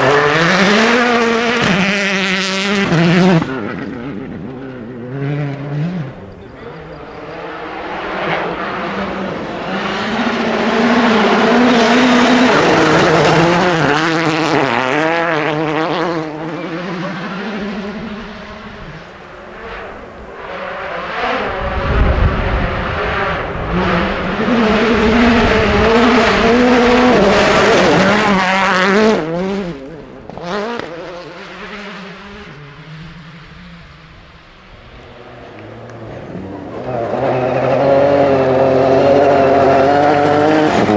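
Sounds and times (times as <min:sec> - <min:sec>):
rally car engines revving past: 0:00.0 - 0:40.9.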